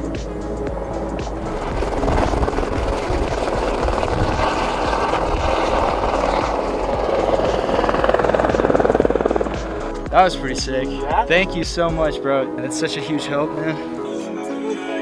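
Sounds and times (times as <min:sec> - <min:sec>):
helicopter rotor beating: 0:00.0 - 0:12.2
low rumble: 0:00.0 - 0:12.2.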